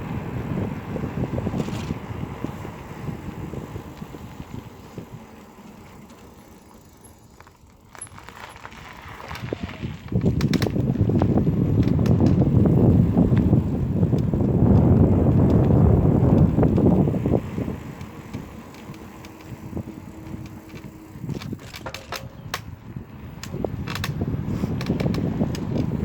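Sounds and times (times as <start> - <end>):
wind rushing over microphone: 0.0 - 5.3, 9.1 - 26.0
bicycle clicks and rattles: 0.5 - 26.0.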